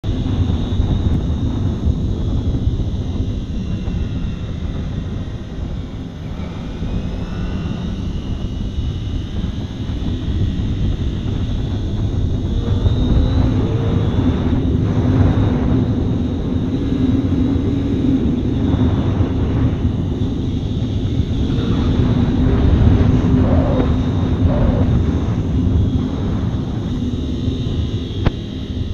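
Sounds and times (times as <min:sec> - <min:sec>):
motorcycle engine running: 0:00.0 - 0:28.9
wind rushing on microphone: 0:00.0 - 0:28.9.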